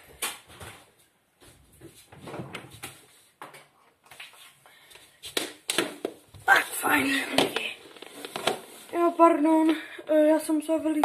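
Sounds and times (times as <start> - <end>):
rustling of handling things: 0.0 - 10.1.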